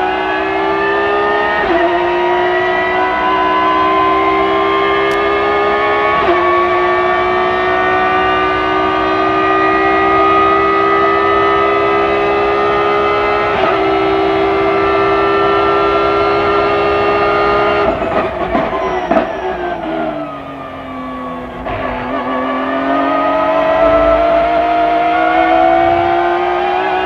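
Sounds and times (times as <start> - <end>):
engine throttle blips: 0.0 - 27.0
race car engine at high revs: 0.0 - 27.0.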